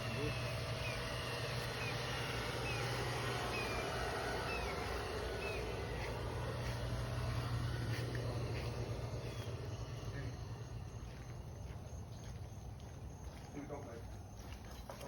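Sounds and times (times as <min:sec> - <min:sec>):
bird chirps: 0:00.0 - 0:14.9
steady low hum: 0:00.0 - 0:15.0.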